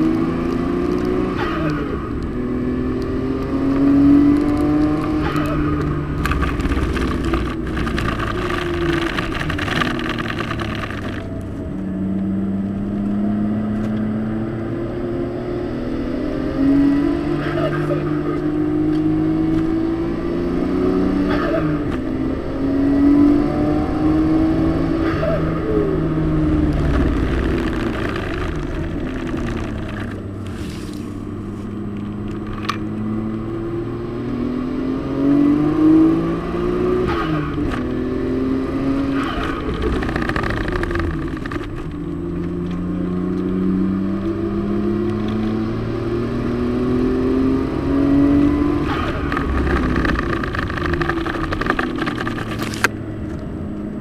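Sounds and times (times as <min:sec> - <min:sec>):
car engine revving: 0:00.0 - 0:54.0
road and wind noise: 0:00.0 - 0:54.0.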